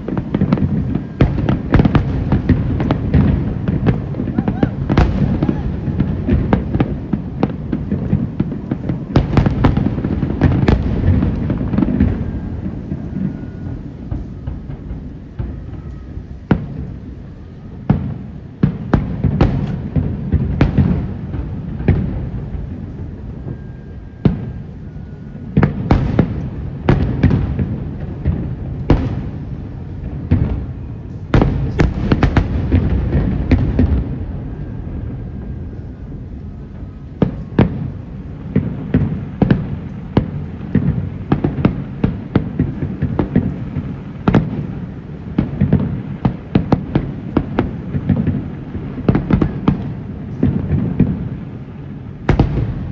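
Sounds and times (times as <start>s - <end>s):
fireworks cracking and popping: 0.0s - 52.9s
low rumble of firework bursts: 0.0s - 52.9s.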